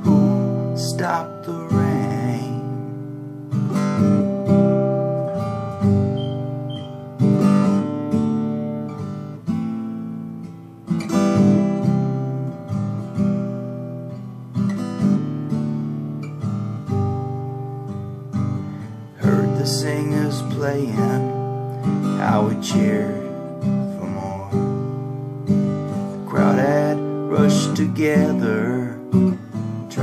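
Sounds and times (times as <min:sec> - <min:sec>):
acoustic guitar strumming chords: 0:00.0 - 0:30.0.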